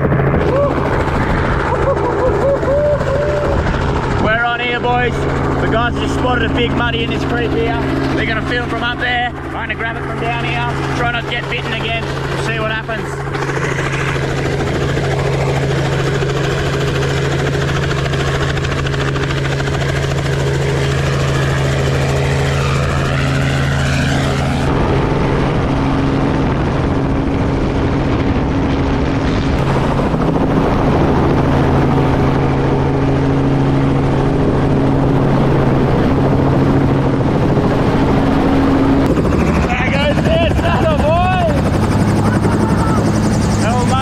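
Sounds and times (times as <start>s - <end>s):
helicopter rotor and engine: 0.0s - 44.0s.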